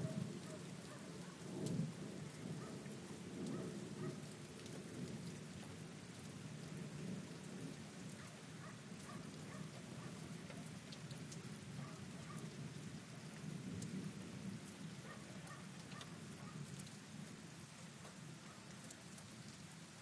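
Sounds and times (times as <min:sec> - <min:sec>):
raindrops ticking: 0:00.0 - 0:20.0
steady rain: 0:00.0 - 0:20.0.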